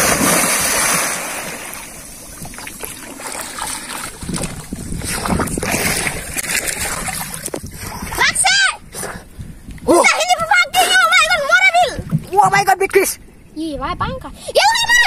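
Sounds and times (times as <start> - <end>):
water splashing and sloshing: 0.0 - 12.9.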